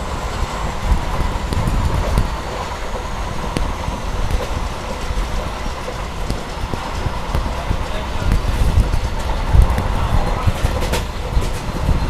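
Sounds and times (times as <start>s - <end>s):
sharp clicks and clacks: 0.0s - 12.0s
train wheels rumbling on rail: 0.0s - 12.0s.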